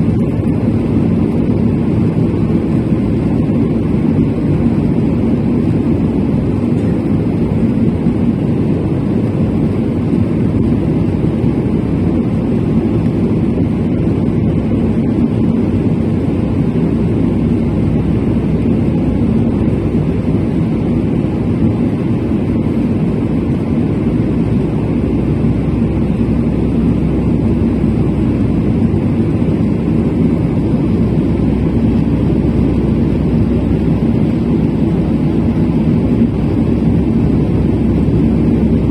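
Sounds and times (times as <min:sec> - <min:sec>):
jet engines droning in flight: 0:00.0 - 0:38.9.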